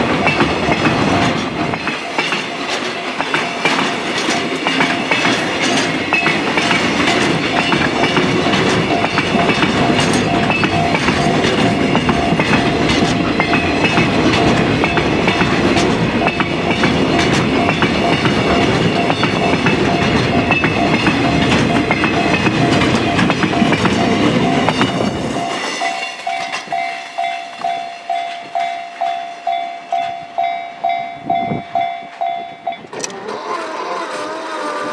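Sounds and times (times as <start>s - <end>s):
train wheels clattering on rails: 0.0s - 33.4s
crossing warning bell ringing: 0.0s - 34.1s.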